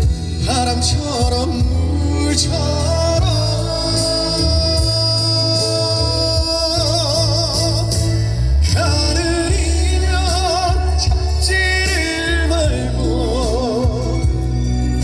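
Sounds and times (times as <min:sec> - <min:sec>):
backing music: 0:00.0 - 0:15.0
man singing with vibrato: 0:00.0 - 0:15.0.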